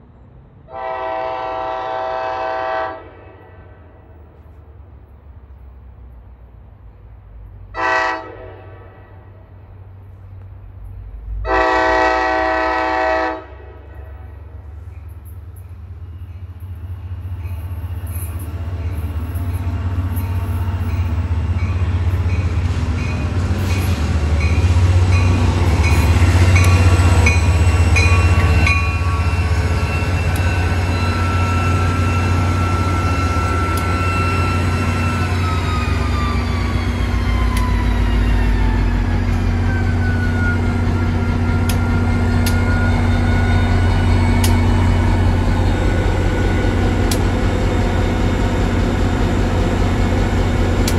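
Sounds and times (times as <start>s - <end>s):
train deep hum: 0.0s - 50.9s
train electrical whine: 0.7s - 50.9s.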